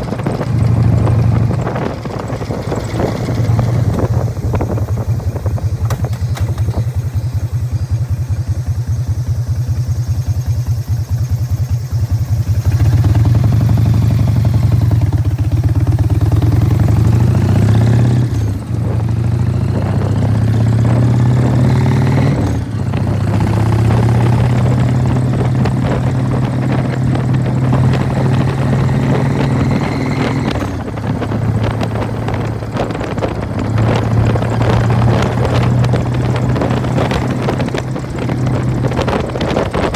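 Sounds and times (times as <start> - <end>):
motorcycle exhaust pulsing: 0.0 - 39.9.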